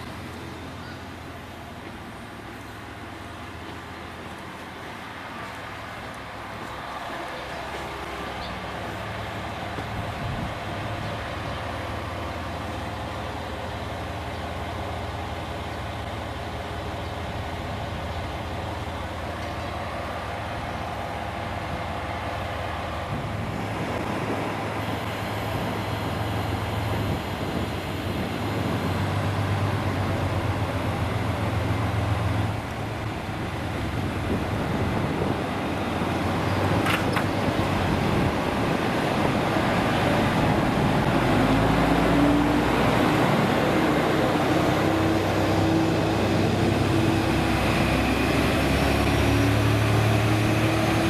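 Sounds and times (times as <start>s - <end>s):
diesel railcar engine droning: 0.0s - 51.0s.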